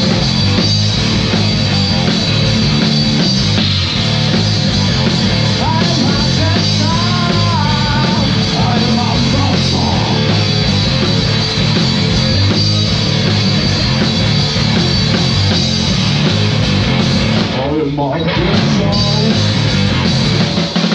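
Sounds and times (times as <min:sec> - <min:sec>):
drum kit with cymbals: 0:00.0 - 0:20.9
loud rock music: 0:00.0 - 0:20.9.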